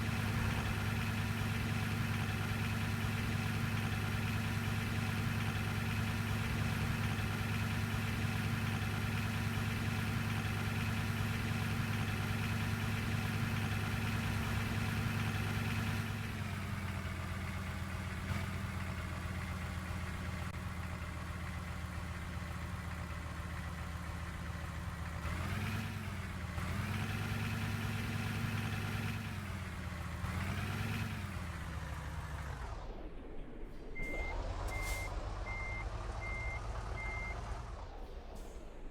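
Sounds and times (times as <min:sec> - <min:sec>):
bus engine idling and revving: 0:00.0 - 0:38.9.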